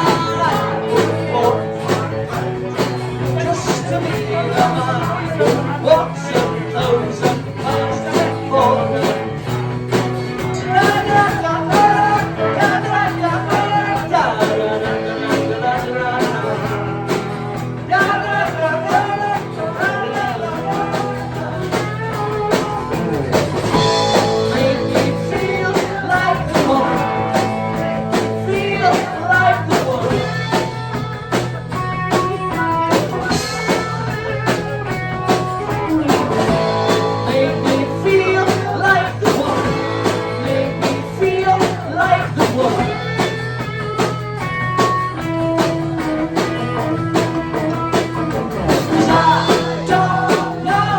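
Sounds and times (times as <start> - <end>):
bass: 0.0 - 50.9
blues rock band playing: 0.0 - 50.9
drums with steady beat: 0.0 - 50.9
guitar: 0.0 - 50.9.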